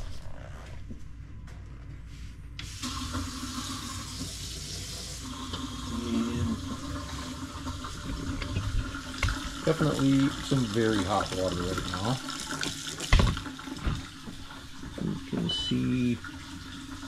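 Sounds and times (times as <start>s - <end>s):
faucet turned on: 2.6s - 17.0s
water running into metal sink: 2.7s - 17.0s.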